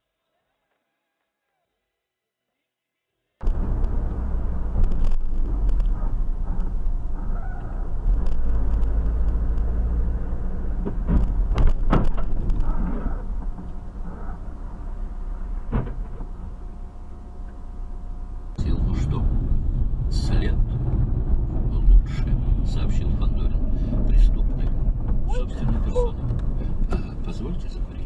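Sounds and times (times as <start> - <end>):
engine and tyre rumble: 3.4 - 28.0.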